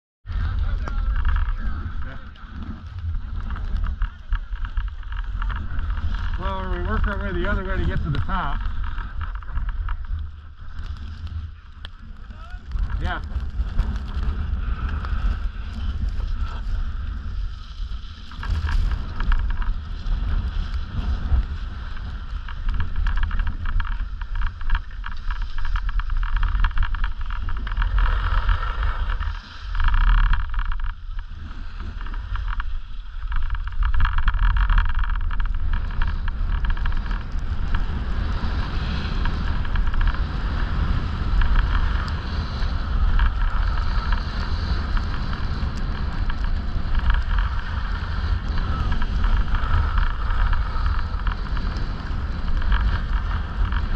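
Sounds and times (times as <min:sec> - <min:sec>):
wind buffeting microphone: 0:00.2 - 0:53.9
skis scraping over snow: 0:00.3 - 0:53.9.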